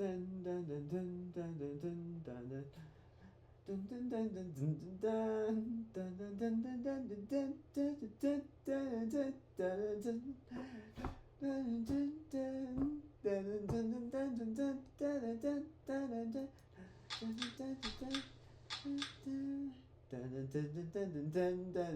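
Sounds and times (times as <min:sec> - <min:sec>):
man singing nonsense syllables: 0:00.0 - 0:03.0, 0:03.6 - 0:21.9
faint low hum: 0:00.0 - 0:21.9.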